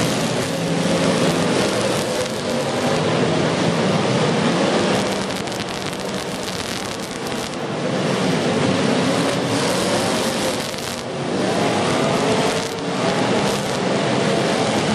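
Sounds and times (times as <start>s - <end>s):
car engines running loudly: 0.0s - 14.9s.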